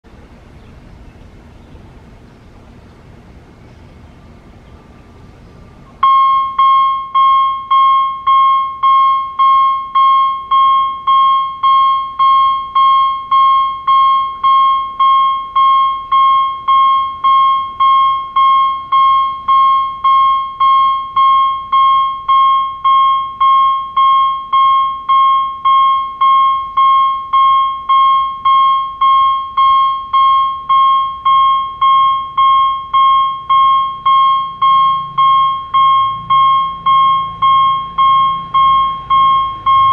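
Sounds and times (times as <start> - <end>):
level crossing warning bell ringing: 6.0 - 39.9.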